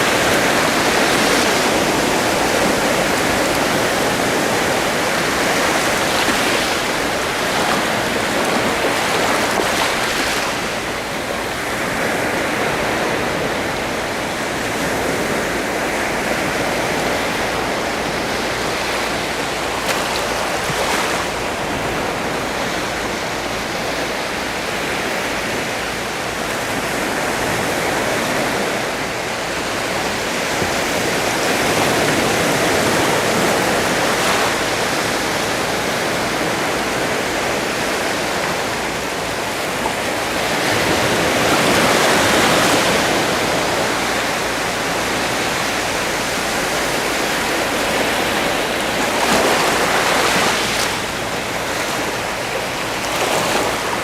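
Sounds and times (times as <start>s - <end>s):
waves washing ashore: 0.0s - 54.0s.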